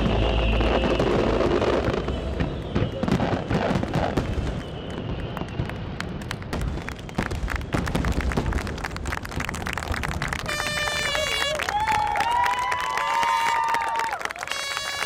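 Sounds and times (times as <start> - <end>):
fireworks crackling pops: 0.0 - 12.8, 14.4 - 15.0.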